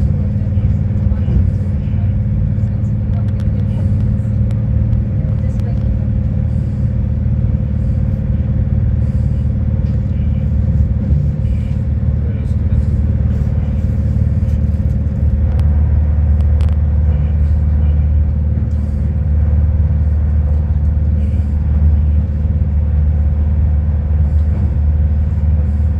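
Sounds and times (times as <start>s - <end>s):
train rumble inside carriage: 0.0s - 25.9s.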